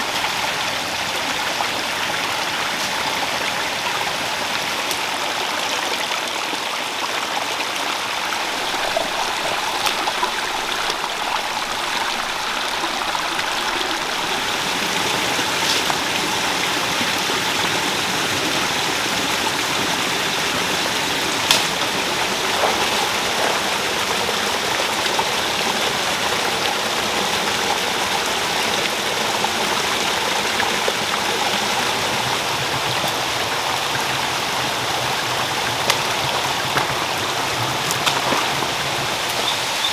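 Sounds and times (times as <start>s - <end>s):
stream splashing over stones: 0.0s - 39.9s.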